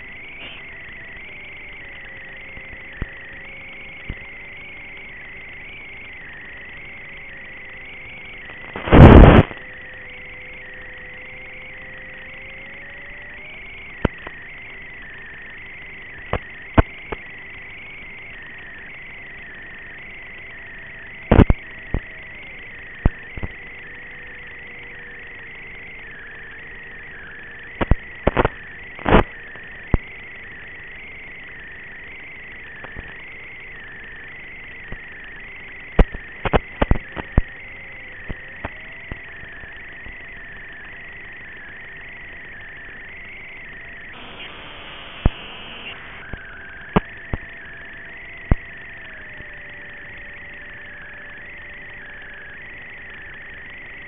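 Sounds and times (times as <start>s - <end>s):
electric motor and propeller whine: 0.0s - 54.0s
radio static crackles: 0.0s - 54.0s.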